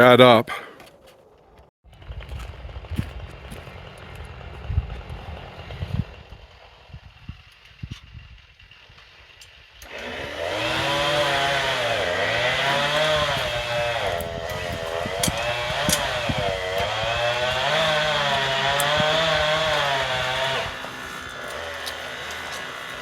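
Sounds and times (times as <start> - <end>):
chainsaw cutting through log: 2.0 - 7.2, 8.7 - 23.0.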